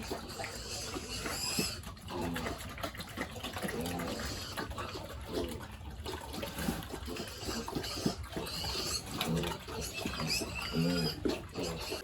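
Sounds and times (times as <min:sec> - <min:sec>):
pigs grunting: 0:00.0 - 0:12.0
running water: 0:00.0 - 0:12.0.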